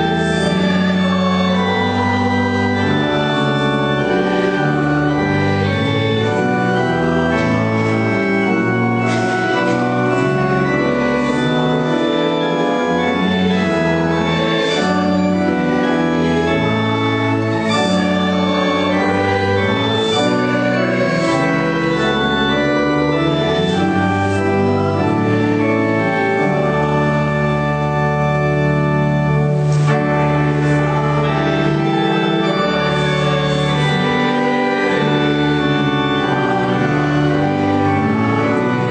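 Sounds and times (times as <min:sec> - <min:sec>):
organ chords: 0:00.0 - 0:38.9.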